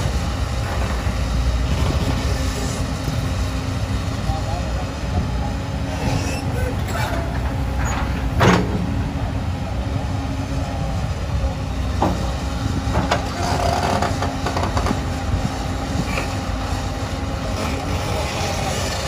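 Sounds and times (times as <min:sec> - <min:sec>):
excavator diesel engine droning: 0:00.0 - 0:19.0.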